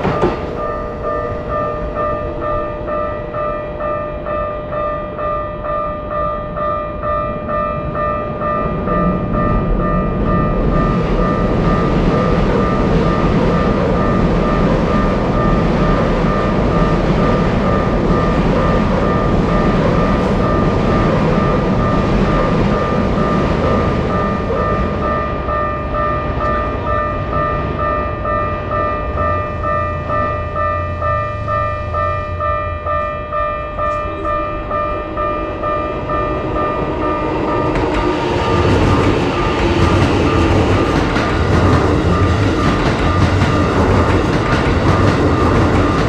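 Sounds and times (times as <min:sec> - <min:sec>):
railroad crossing alarm ringing: 0:00.0 - 0:46.0
train rumble and wheel noise: 0:00.0 - 0:46.0.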